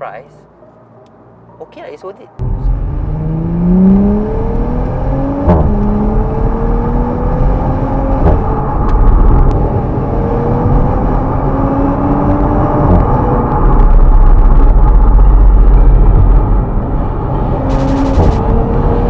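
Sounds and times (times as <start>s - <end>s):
car engine accelerating: 2.4s - 19.0s.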